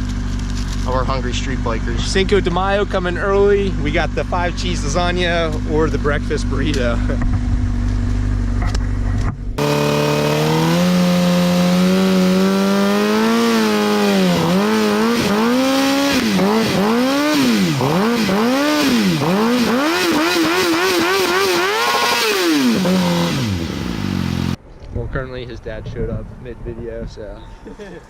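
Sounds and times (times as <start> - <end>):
motorcycle engine revving: 0.0 - 24.6.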